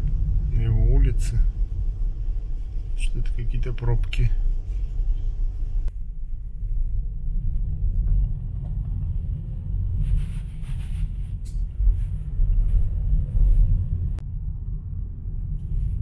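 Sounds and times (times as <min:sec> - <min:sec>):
car interior engine rumble: 0:00.0 - 0:16.0.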